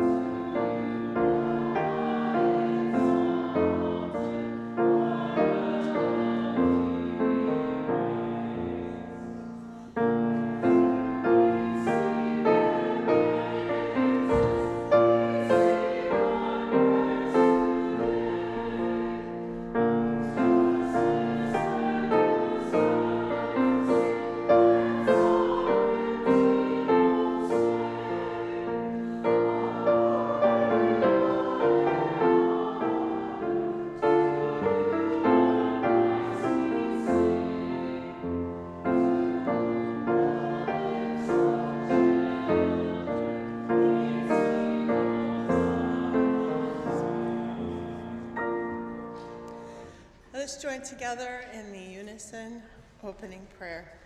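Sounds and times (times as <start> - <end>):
church choir singing: 0.0 - 50.3
piano accompaniment: 0.0 - 51.1.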